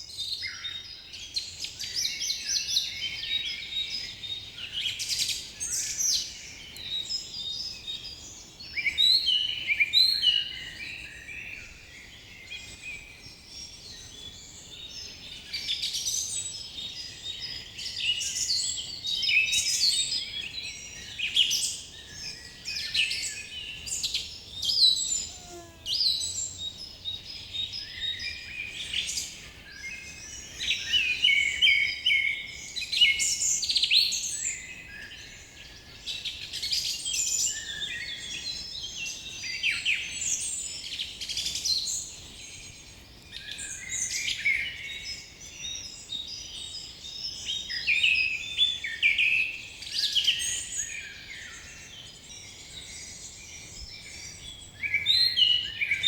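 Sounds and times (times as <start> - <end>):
forest birds chirping and trilling: 0.0 - 56.0.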